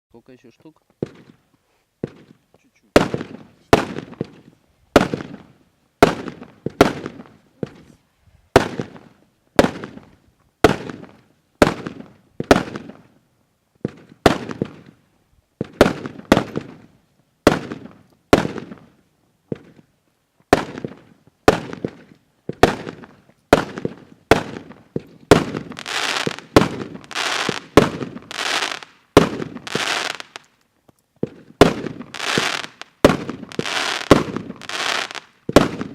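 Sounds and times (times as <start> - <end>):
fireworks bangs: 1.0 - 1.4, 2.0 - 7.9, 8.5 - 13.1, 13.8 - 15.0, 15.6 - 19.9, 20.5 - 30.4, 31.2 - 35.9
crackling firework tails: 1.0 - 13.2, 13.8 - 35.9.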